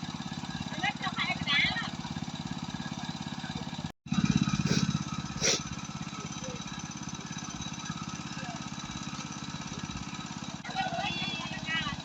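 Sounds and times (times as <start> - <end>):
small engine chugging: 0.0 - 12.0.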